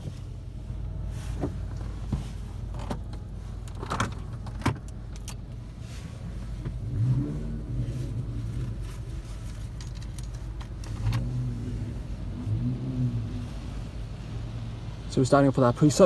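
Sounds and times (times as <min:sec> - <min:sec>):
car idling rumble: 0:00.0 - 0:16.0.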